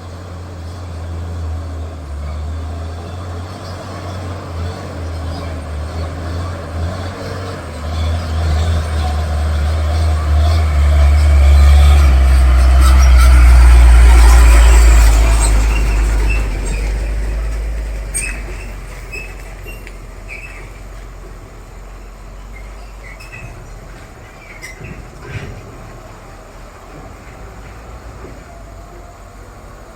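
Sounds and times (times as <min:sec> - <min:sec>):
diesel truck engine rumbling: 0:00.0 - 0:29.9.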